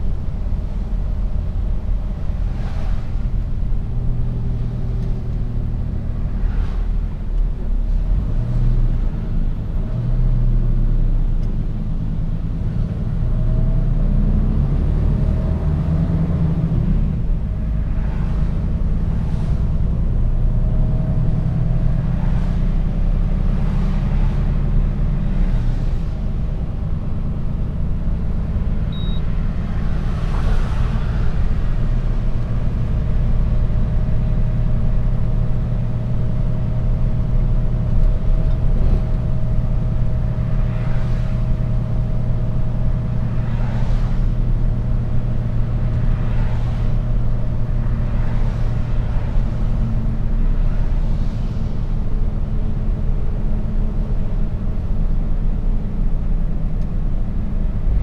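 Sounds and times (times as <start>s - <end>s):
road noise: 0.0s - 58.0s
truck diesel engine droning: 0.0s - 58.0s.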